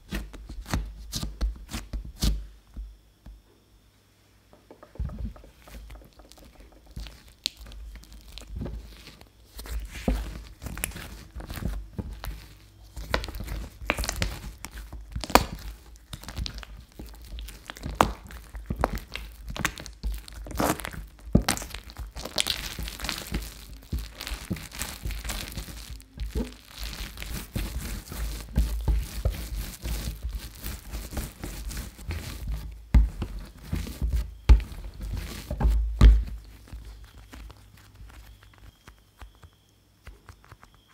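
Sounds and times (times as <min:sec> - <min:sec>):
dough sticky tearing: 0:00.0 - 0:02.4, 0:04.9 - 0:40.9
dough thuds when pressed: 0:04.5 - 0:39.5
dough wet squishing: 0:04.6 - 0:40.9.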